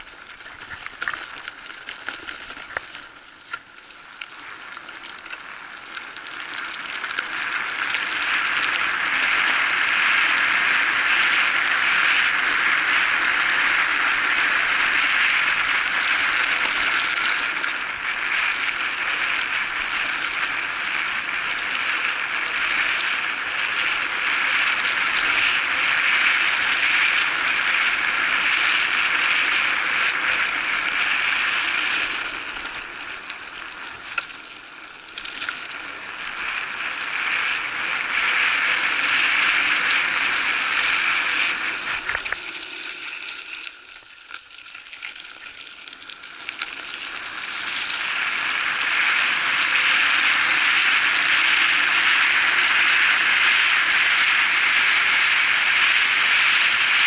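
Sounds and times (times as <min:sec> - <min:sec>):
bike tyres rolling: 0:00.0 - 0:57.0.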